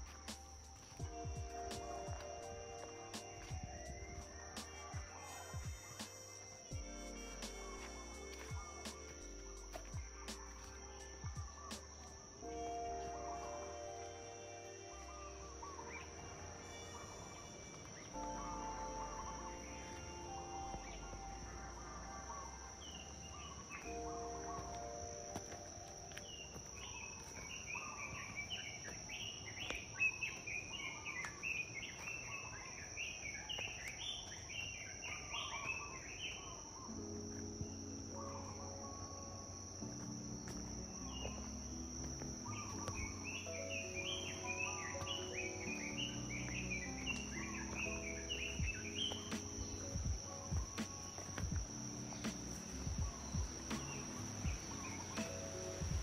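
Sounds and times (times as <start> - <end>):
birds chirping: 0.0 - 56.0
high insect drone: 0.0 - 56.0
soft background music: 0.0 - 56.0.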